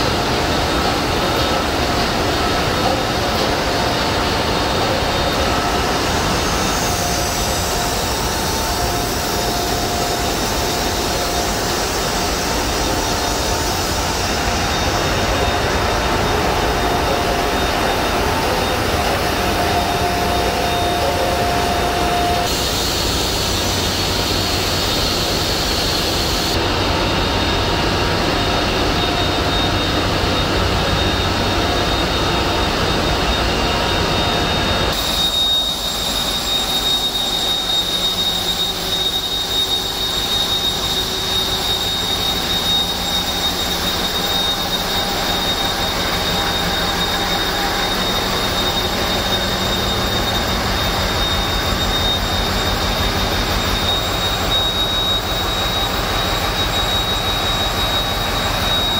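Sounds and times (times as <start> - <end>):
diesel generators running: 0.0 - 58.9
high-pitched whine: 0.0 - 58.9.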